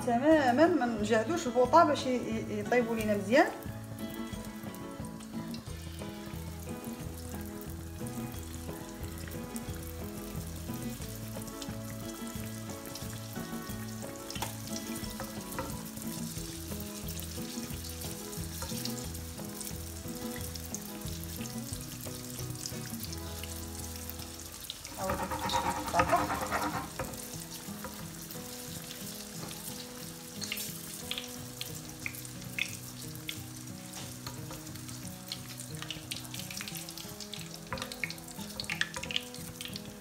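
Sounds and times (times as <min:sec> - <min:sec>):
dough sizzling in oil: 0:00.4 - 0:40.0.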